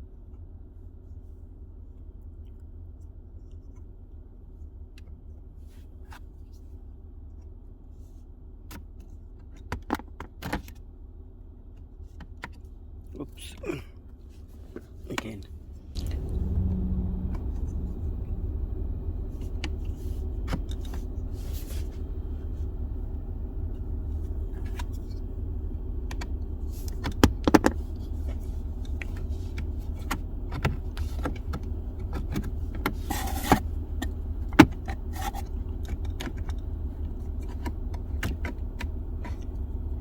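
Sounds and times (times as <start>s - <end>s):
car engine hum: 0.2s - 40.0s.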